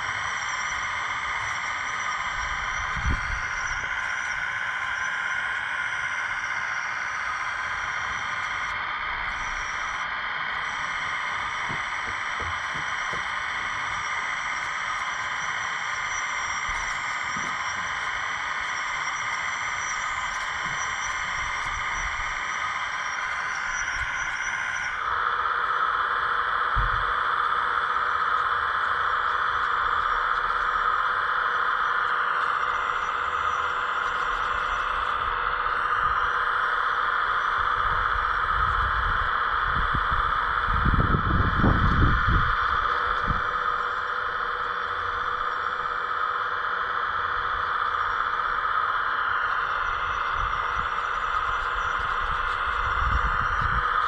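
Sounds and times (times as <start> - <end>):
model excavator motor whining: 0.0 - 54.0.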